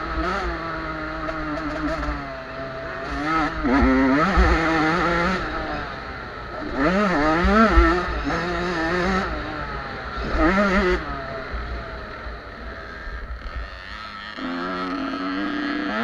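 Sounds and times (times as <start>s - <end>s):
two-stroke motocross bikes revving: 0.0s - 16.0s.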